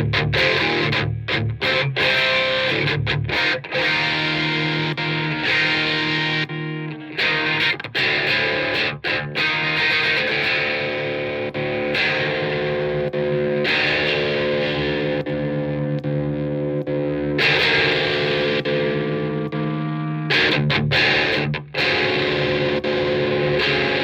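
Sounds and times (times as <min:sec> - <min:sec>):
distorted electric guitar chords: 0:00.0 - 0:24.0.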